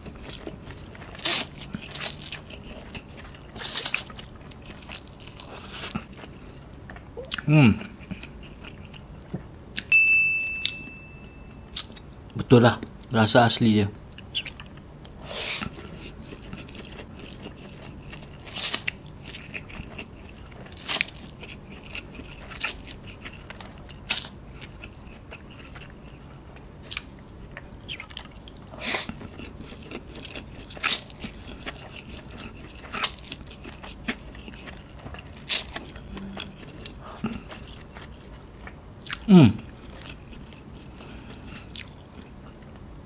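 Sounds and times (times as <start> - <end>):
chewing noodles: 0.0 - 9.2, 14.1 - 42.7.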